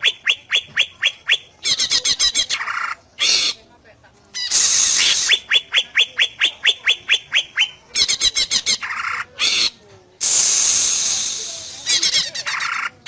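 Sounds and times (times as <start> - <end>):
bird singing: 0.0 - 3.6, 4.4 - 13.0.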